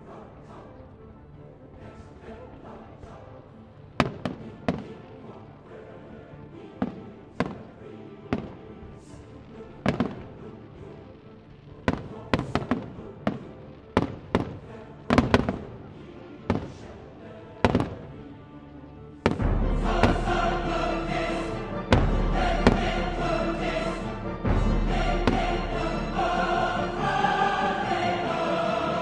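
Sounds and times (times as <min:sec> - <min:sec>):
background music: 0:00.0 - 0:29.0.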